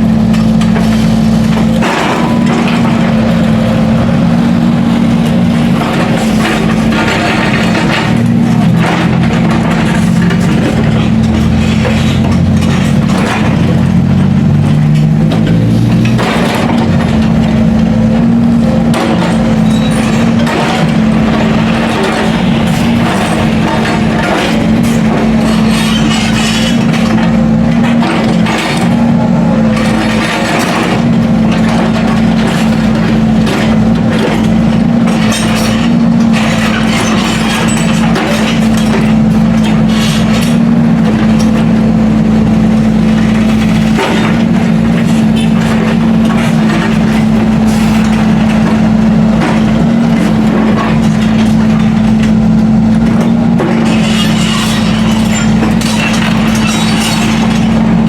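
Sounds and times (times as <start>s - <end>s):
diesel engine droning: 0.0s - 58.0s
machinery clattering: 0.0s - 58.0s
rattling and clanking: 0.0s - 58.0s.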